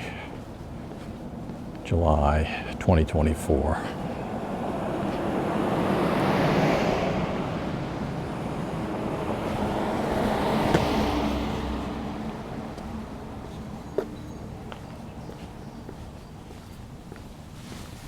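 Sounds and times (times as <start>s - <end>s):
cars passing on paved road: 0.0s - 18.0s.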